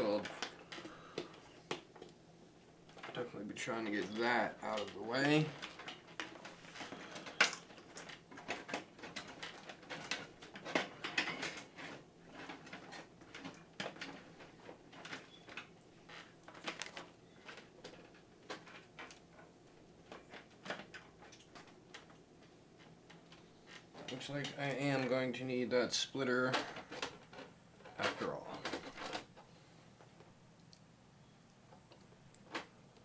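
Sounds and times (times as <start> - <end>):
cables clicking and rustling: 0.0 - 33.0.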